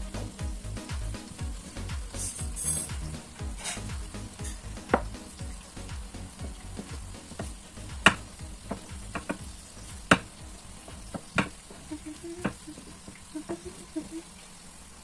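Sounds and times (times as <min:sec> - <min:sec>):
sharp clicks of frying: 0:00.0 - 0:13.7
oil sizzling in a pan: 0:00.0 - 0:15.0.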